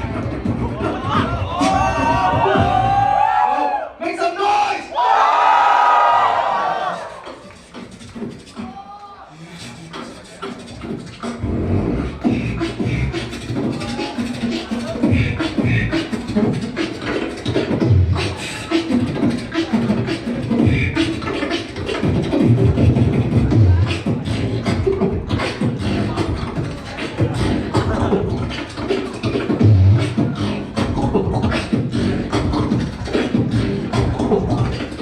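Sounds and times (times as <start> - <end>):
beatboxing: 0.0 - 3.6, 6.7 - 35.0.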